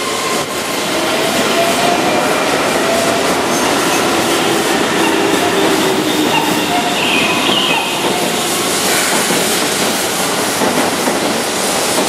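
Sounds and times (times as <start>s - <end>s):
electric train rushing past: 0.0s - 12.0s.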